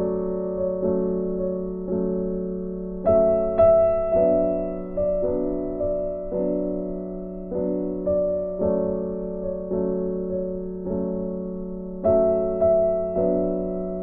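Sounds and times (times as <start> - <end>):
slow electric piano chords: 0.0 - 14.0.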